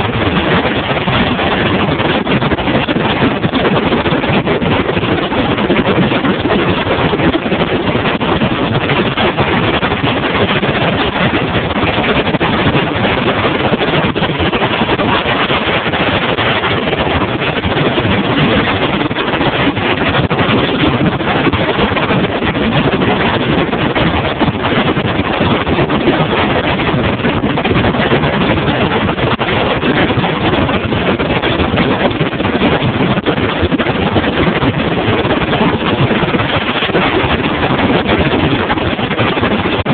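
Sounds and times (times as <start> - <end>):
boat motor and water rush: 0.0 - 39.9
wind buffeting microphone: 0.0 - 39.9.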